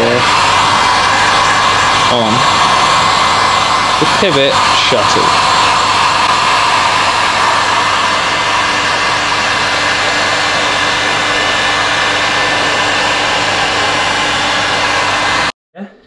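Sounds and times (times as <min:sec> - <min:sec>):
heat gun blowing air: 0:00.0 - 0:15.5.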